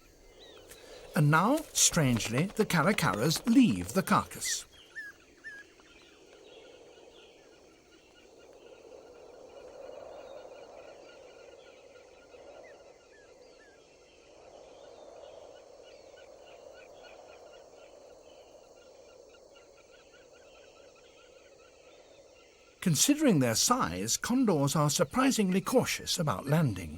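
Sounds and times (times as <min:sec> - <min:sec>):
rapid rattling bird calls: 0:00.0 - 0:26.9.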